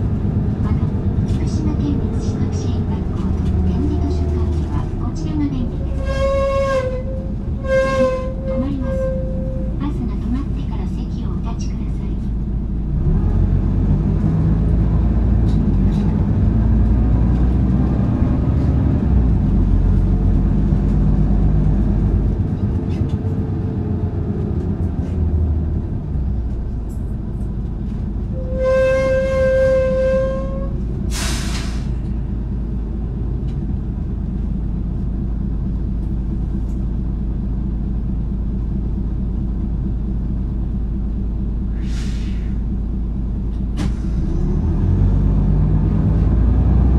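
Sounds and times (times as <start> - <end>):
diesel bus engine drone: 0.0 - 46.9.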